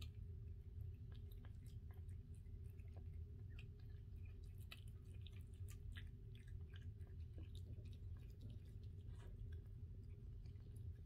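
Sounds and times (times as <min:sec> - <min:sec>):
cat chewing wet food: 0:00.0 - 0:11.0
low steady hum: 0:00.0 - 0:11.0.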